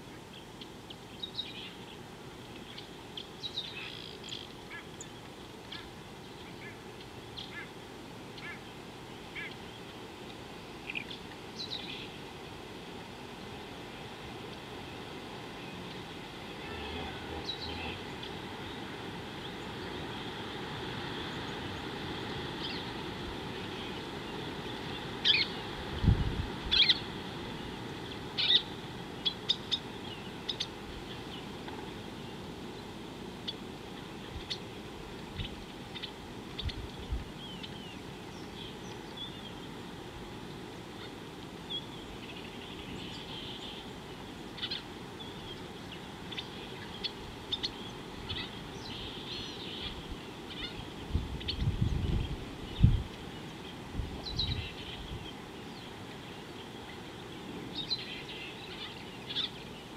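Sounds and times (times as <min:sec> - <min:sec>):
wild birds calling: 0:00.0 - 0:10.0, 0:13.9 - 0:59.9
steady outdoor hiss: 0:00.0 - 0:59.9.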